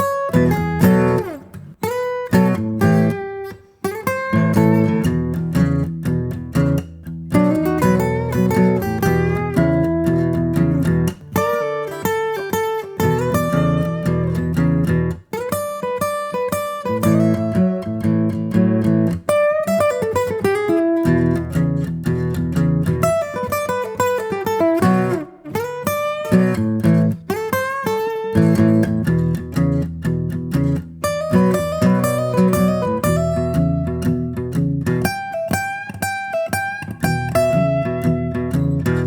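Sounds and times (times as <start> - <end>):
plucked guitar music: 0.0 - 39.0.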